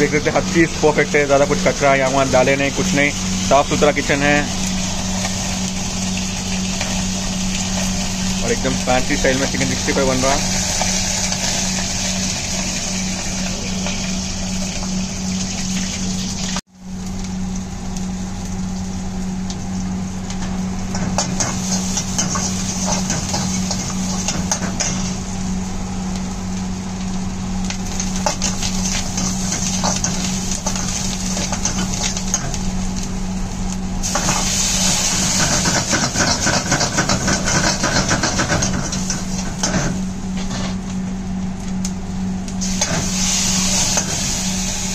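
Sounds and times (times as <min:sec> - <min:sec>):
food sizzling: 0:00.0 - 0:44.9
gas burner humming: 0:00.0 - 0:44.9.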